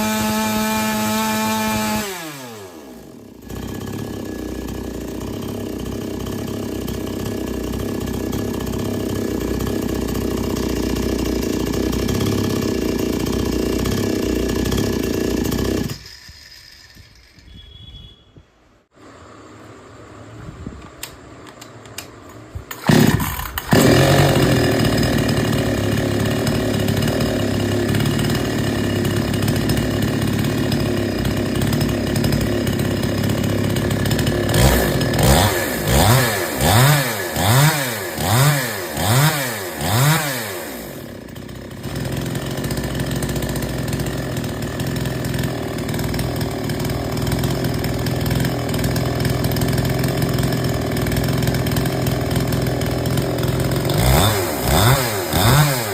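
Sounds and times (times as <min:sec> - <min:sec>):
chainsaw engine running: 0:00.0 - 0:17.8, 0:22.7 - 0:55.9
chainsaw throttle blips: 0:00.0 - 0:18.2, 0:22.7 - 0:55.9.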